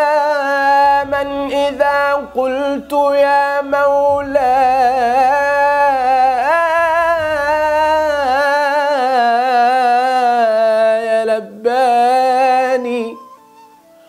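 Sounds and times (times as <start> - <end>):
man singing unaccompanied: 0.0 - 13.4.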